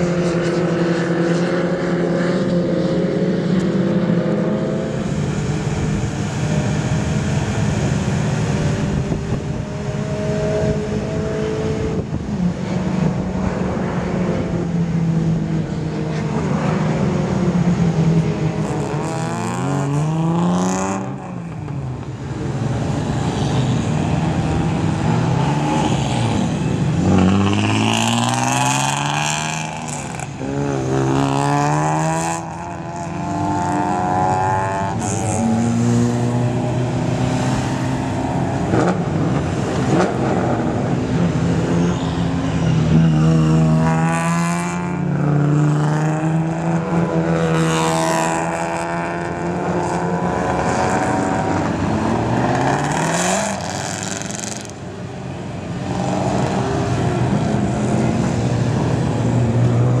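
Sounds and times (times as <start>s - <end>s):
race car engines revving: 0.0s - 60.0s.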